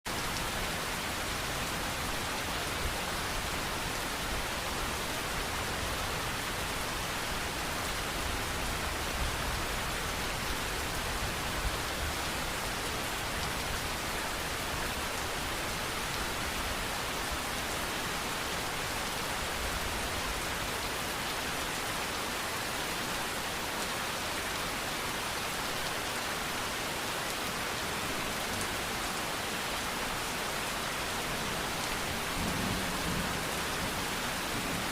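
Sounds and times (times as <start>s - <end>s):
rain falling: 0.1s - 34.9s.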